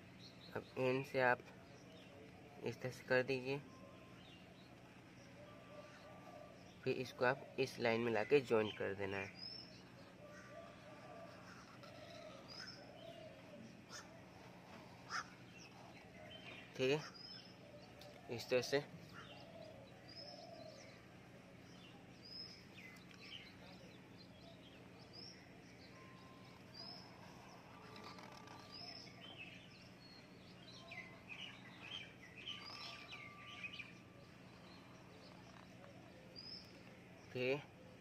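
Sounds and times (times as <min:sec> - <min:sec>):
bird chirping: 0:00.0 - 0:38.0
low steady hum: 0:00.0 - 0:38.0.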